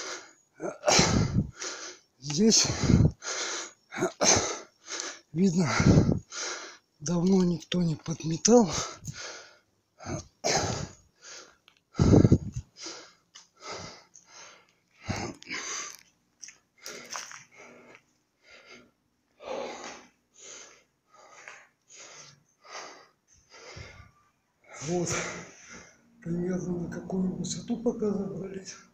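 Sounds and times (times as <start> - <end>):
man breathing hard: 0.0 - 7.0, 8.7 - 16.1, 16.8 - 26.2.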